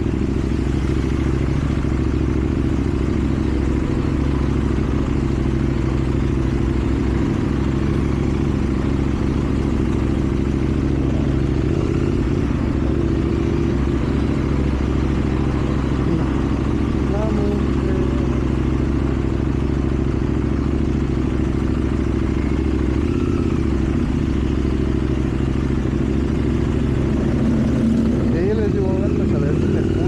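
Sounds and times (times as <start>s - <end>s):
motorcycle engine running steadily: 0.0s - 30.0s.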